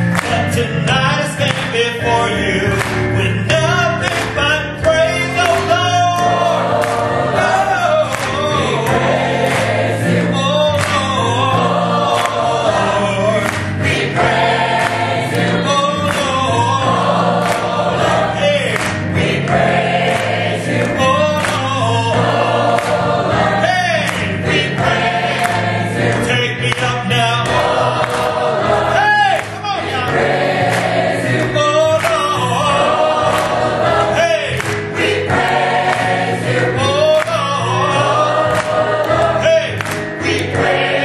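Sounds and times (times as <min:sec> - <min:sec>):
gospel choir singing: 0:00.0 - 0:41.0
piano: 0:00.0 - 0:41.0.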